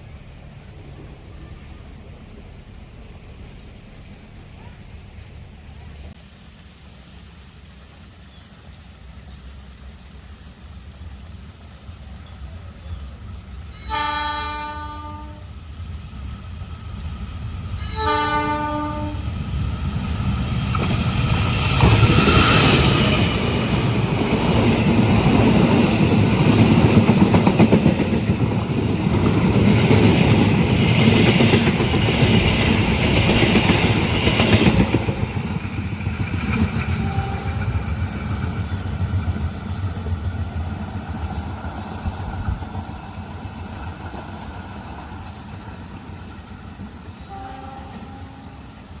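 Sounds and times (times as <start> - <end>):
train passing with wheel clatter: 0.0 - 49.0.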